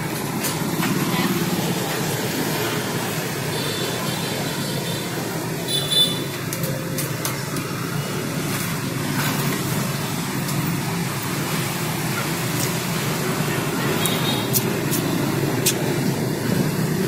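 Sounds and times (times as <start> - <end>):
road traffic hum: 0.0 - 17.0.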